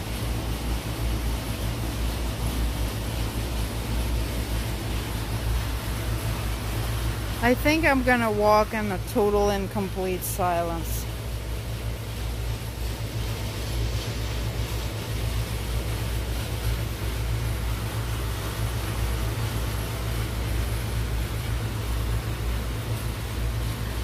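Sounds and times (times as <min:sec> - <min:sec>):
ventilation fans droning: 0:00.0 - 0:24.0.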